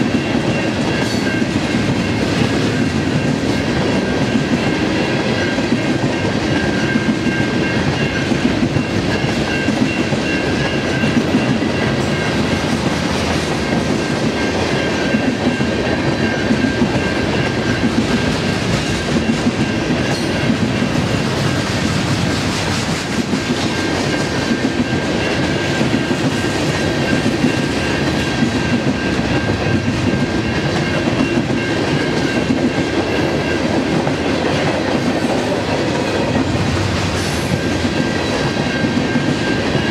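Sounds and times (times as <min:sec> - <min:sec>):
freight train rolling past: 0:00.0 - 0:39.9
train wheels clacking over rail joints: 0:00.0 - 0:39.9.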